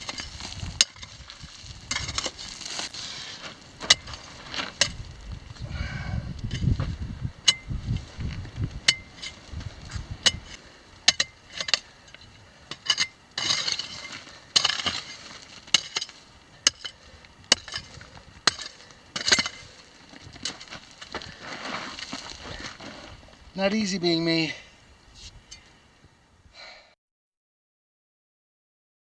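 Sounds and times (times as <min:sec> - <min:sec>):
loose rock clinking and sliding: 0:00.0 - 0:05.6, 0:06.4 - 0:24.4.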